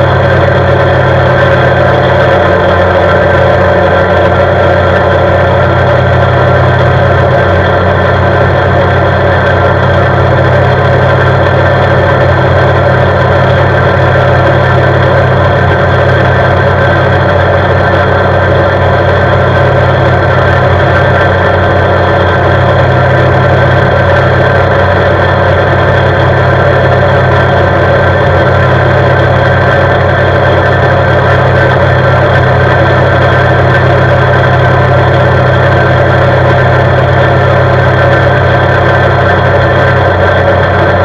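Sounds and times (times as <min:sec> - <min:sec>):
atv engine running steadily: 0:00.0 - 0:41.0.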